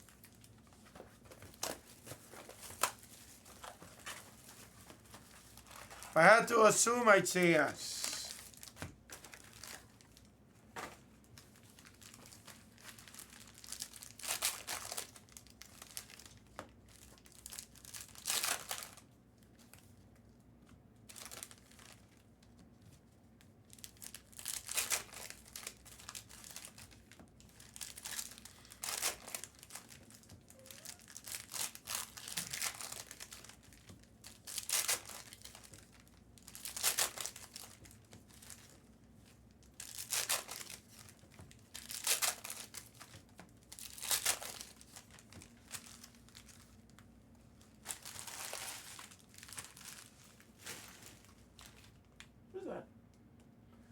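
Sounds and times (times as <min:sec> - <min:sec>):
wrappers crinkling and tearing: 0:00.0 - 0:06.2, 0:08.0 - 0:10.3, 0:11.2 - 0:19.1, 0:21.1 - 0:22.2, 0:23.6 - 0:52.0.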